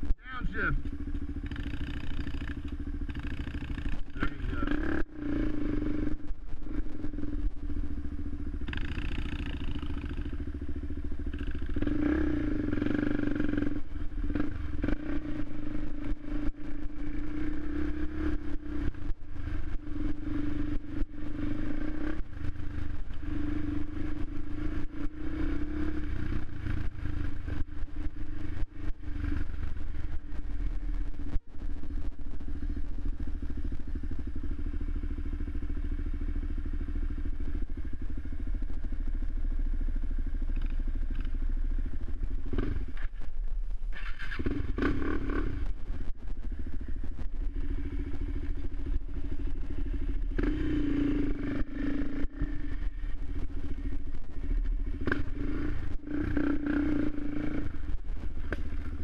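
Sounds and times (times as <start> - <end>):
quad bike engine running: 0.0 - 59.0.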